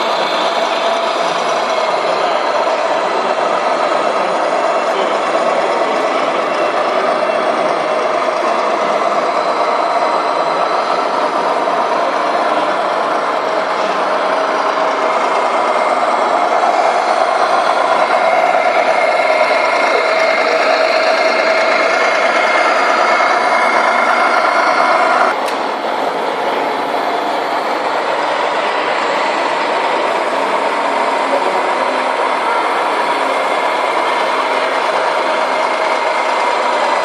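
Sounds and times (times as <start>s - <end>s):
diesel truck engine sound: 0.0s - 37.0s.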